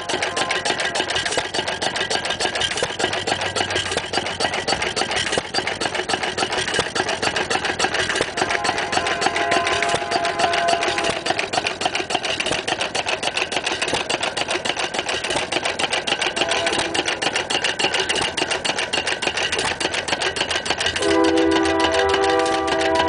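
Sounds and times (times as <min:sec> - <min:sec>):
stationary engine clattering: 0:00.0 - 0:23.0.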